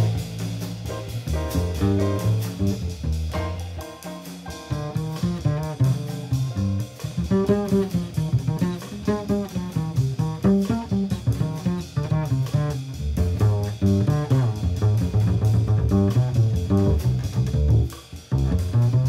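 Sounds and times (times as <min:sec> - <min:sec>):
plucked double bass: 0:00.0 - 0:19.0
small-group jazz: 0:00.0 - 0:19.0.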